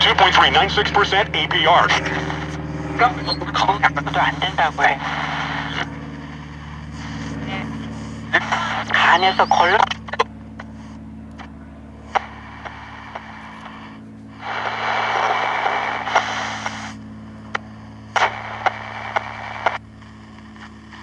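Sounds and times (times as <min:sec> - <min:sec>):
radio hum: 0:00.0 - 0:21.0
radio static hiss: 0:00.0 - 0:21.0.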